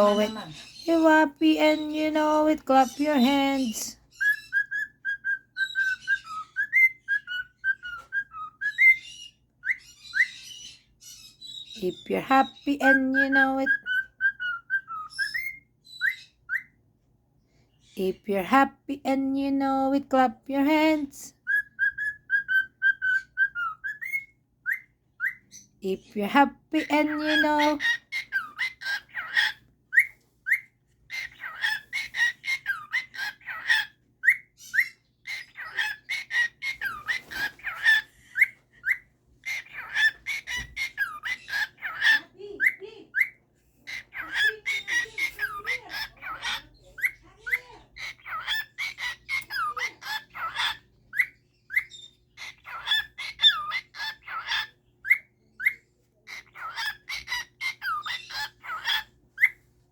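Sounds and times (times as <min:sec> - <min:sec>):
bird chirping and whistling: 0:00.0 - 0:16.8, 0:21.4 - 0:25.8, 0:27.1 - 0:55.8, 0:56.4 - 0:59.6.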